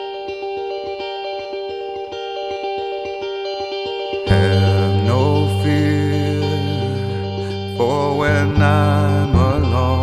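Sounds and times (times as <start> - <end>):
instrumental song with guitar and beat: 0.0 - 10.0.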